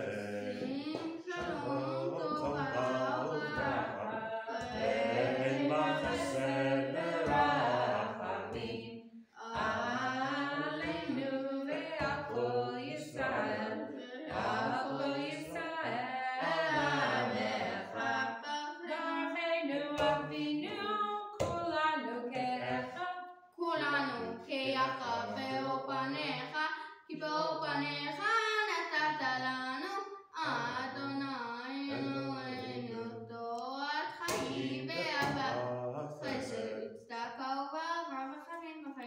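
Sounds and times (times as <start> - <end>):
boy and woman chanting a prayer: 0.0 - 39.0.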